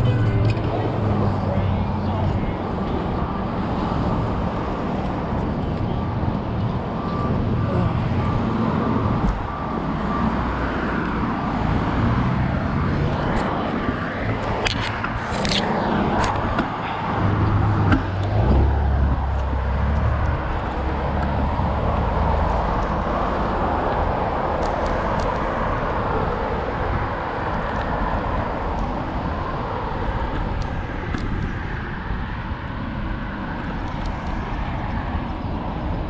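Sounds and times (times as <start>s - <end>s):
cars passing: 0.0s - 36.0s
heavy vehicle low rumble: 0.0s - 36.0s.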